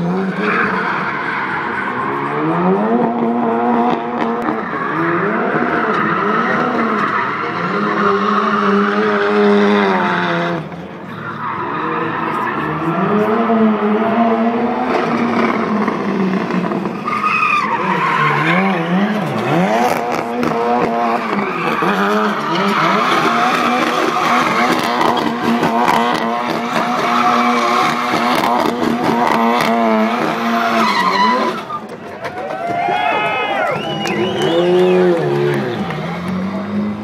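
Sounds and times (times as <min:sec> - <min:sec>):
car engine at high revs: 0:00.0 - 0:32.2, 0:33.7 - 0:37.0
tyres squealing on asphalt: 0:00.0 - 0:37.0.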